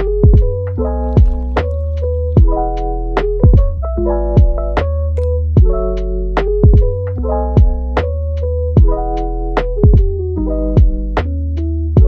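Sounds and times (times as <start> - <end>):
lo-fi beat music: 0.0 - 11.7.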